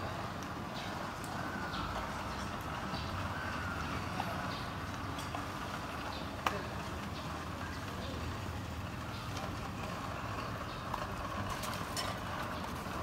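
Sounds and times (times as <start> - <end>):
distant traffic hum: 0.0 - 13.0
faint voices: 0.0 - 13.0.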